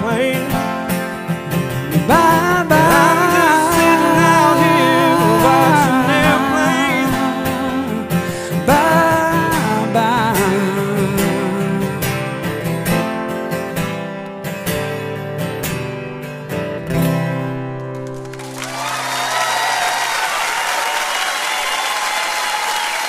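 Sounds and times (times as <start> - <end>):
acoustic guitars strumming: 0.0 - 19.7.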